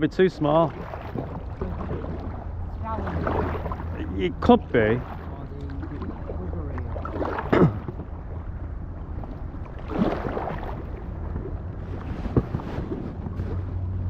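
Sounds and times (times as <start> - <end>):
paddle splashes in water: 0.4 - 8.2, 9.0 - 13.9
wind on microphone: 0.8 - 14.0.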